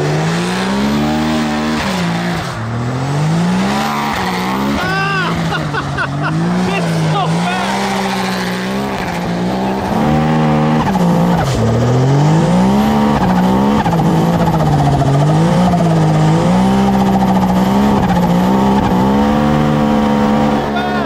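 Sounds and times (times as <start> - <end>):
engine revving: 0.0 - 21.0
tires skidding on dirt: 0.0 - 21.0.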